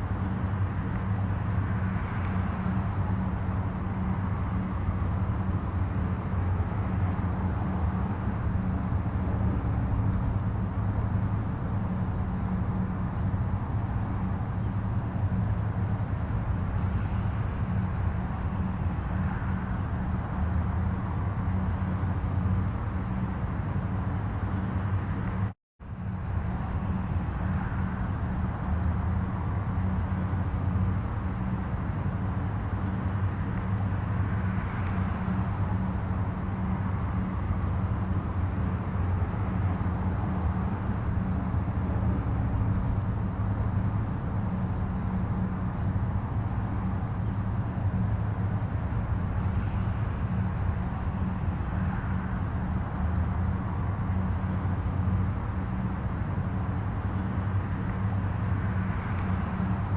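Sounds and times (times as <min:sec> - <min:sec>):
distant highway traffic: 0:00.0 - 0:59.9.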